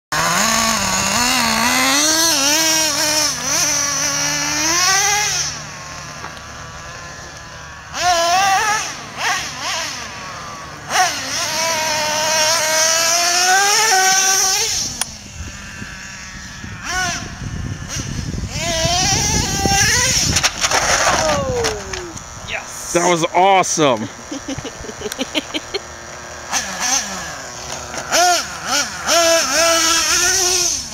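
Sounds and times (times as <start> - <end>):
model truck engine revving: 0.1 - 30.9.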